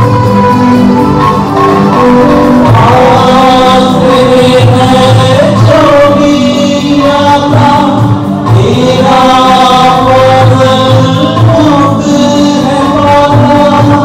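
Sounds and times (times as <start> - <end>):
hymn singing: 0.0 - 14.0
instrumental accompaniment: 0.0 - 14.0.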